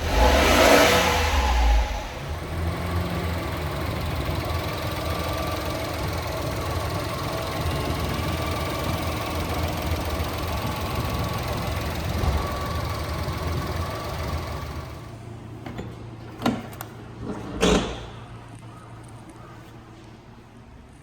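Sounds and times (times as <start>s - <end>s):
truck engine idling: 0.0s - 17.4s.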